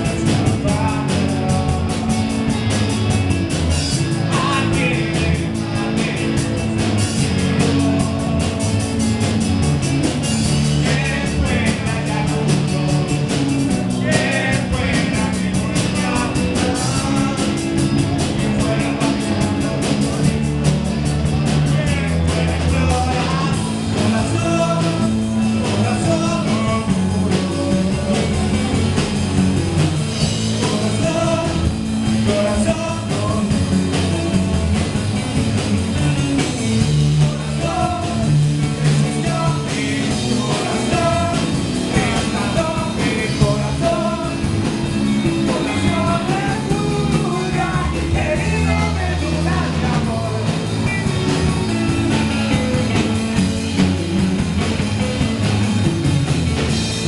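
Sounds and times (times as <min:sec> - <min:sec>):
man singing: 0:00.0 - 0:53.2
acoustic guitar: 0:00.0 - 0:57.0
drum kit: 0:00.0 - 0:57.0
electric guitar: 0:00.0 - 0:57.0.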